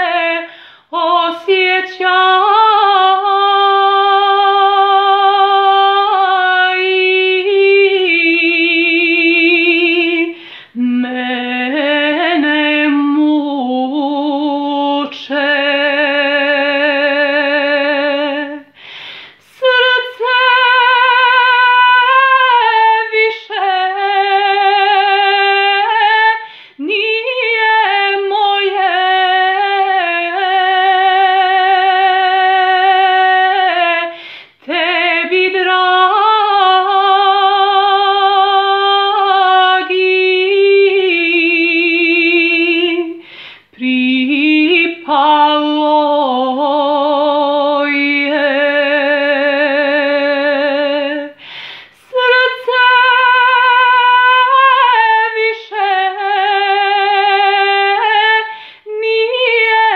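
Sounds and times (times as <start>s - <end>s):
woman singing unaccompanied: 0.0s - 18.8s, 19.4s - 59.9s.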